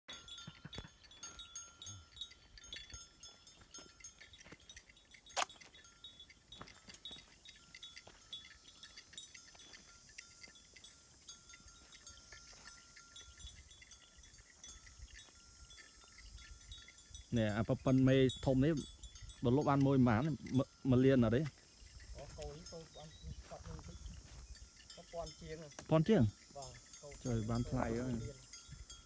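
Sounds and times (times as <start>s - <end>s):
faint chime-like ringing tones: 0.1s - 29.0s.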